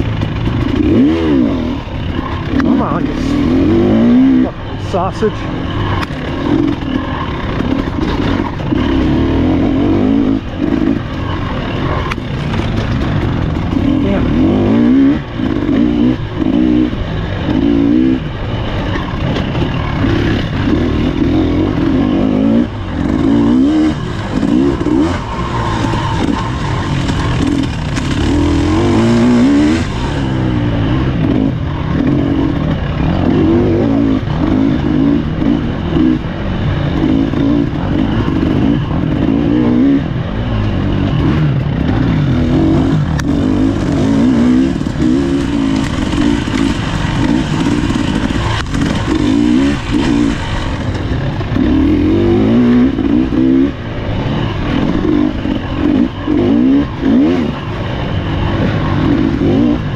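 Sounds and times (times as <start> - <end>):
two-stroke dirt bike engine revving: 0.0 - 59.9.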